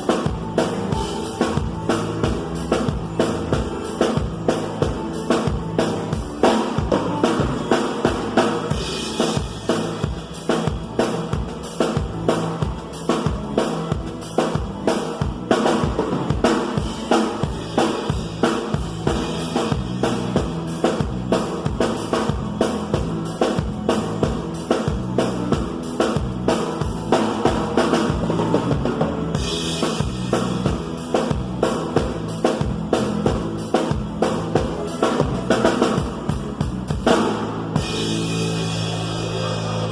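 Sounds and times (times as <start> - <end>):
fast kick and snare drumming: 0.0 - 38.2
bass line: 0.0 - 39.9
live band music: 0.0 - 39.9.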